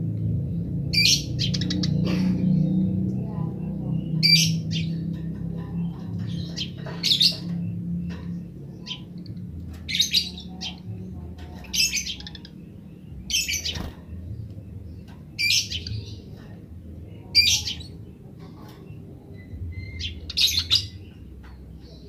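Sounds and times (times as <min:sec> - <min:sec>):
steady low hum: 0:00.0 - 0:22.0
sparrow chirping: 0:00.4 - 0:22.0.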